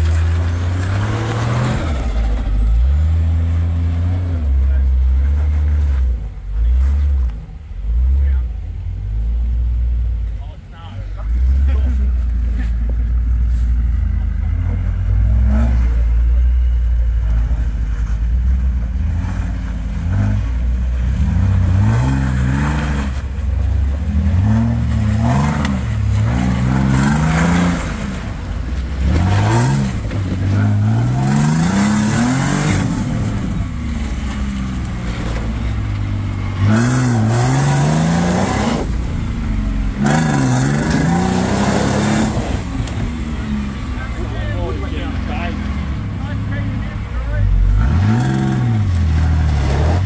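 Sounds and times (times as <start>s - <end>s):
off-road vehicle engine revving: 0.0s - 50.0s.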